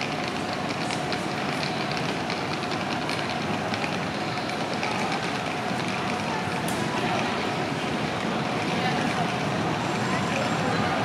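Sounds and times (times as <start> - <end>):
crowd din: 1.4 - 11.0.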